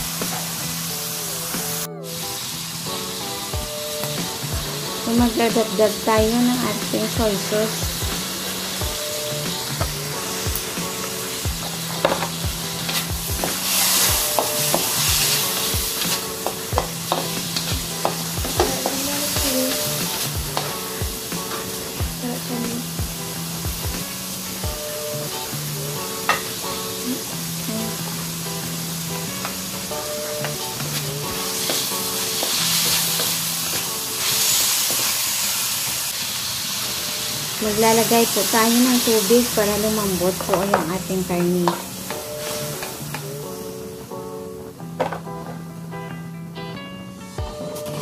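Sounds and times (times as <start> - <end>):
background music with a beat: 0.0 - 35.2, 40.0 - 48.0
meat sizzling in a wok: 0.0 - 48.0.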